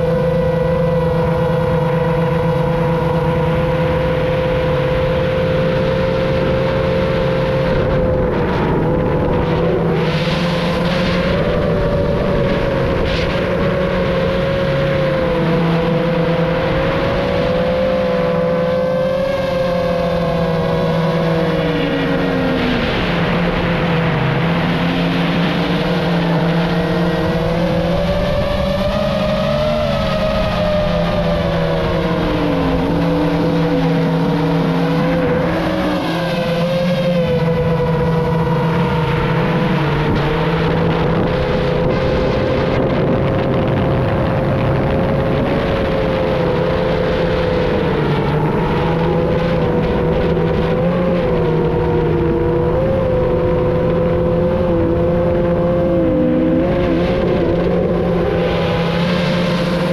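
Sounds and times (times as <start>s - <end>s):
drone motors whining: 0.0s - 59.9s
steady rushing noise: 0.0s - 59.9s.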